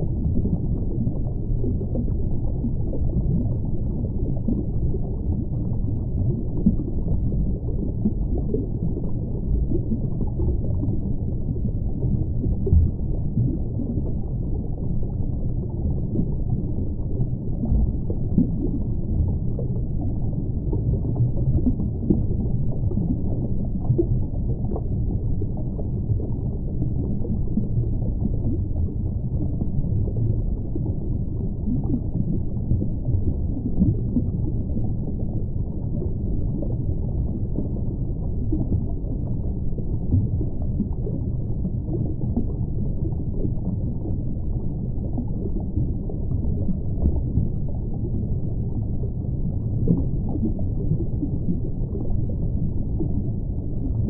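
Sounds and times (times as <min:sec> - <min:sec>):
muffled underwater rumble: 0:00.0 - 0:54.0.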